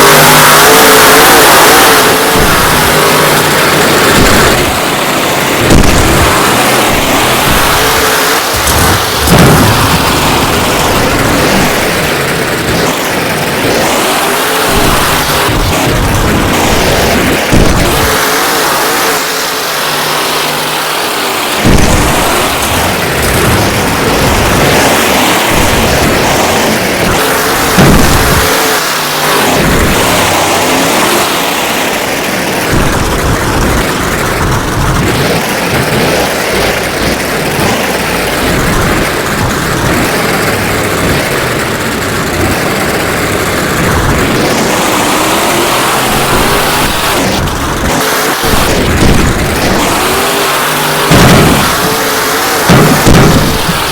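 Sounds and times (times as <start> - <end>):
monster truck engine revving: 0.0 - 53.9.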